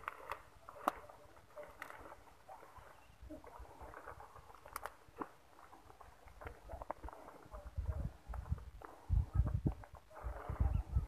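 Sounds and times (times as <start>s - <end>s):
rustling of grass and weeds: 0.0s - 11.0s.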